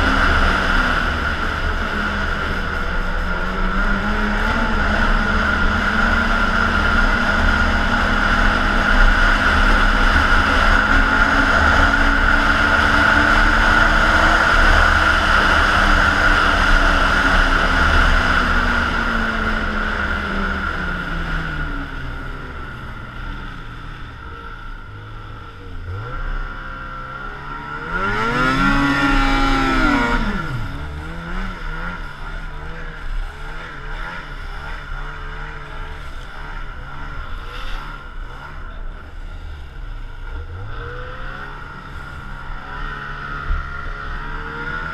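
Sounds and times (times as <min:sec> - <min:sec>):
snowmobile engine revving: 0:00.0 - 0:44.9
steady whine: 0:00.0 - 0:44.9.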